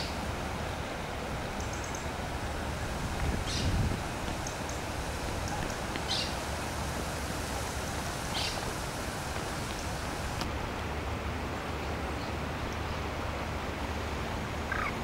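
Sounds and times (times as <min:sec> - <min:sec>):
rushing river water: 0:00.0 - 0:15.0
wind: 0:00.0 - 0:15.0.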